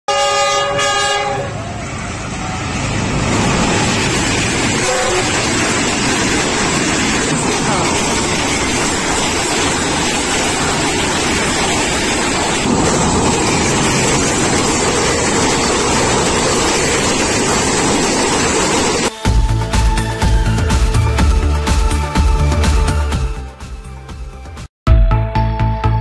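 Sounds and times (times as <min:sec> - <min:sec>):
train wheels on rail track: 0:00.1 - 0:22.0
train rolling over bridge: 0:00.1 - 0:23.0.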